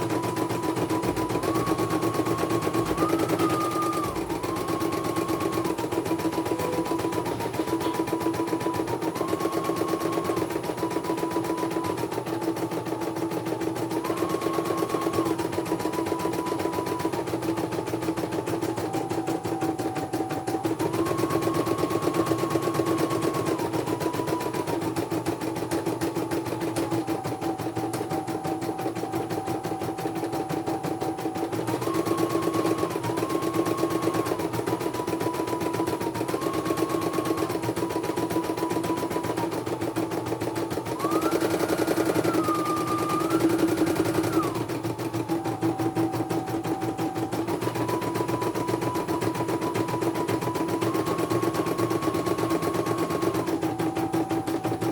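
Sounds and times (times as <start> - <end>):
motor whine changing pitch: 0.0 - 54.9.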